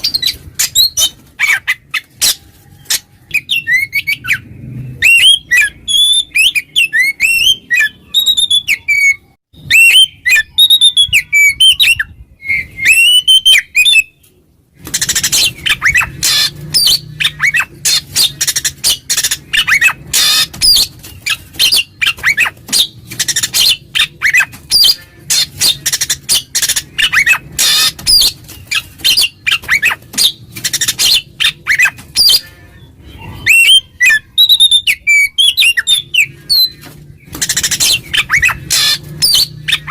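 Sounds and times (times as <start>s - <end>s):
songbird whistling and chattering: 5.0s - 14.2s, 14.8s - 32.4s, 33.1s - 39.9s.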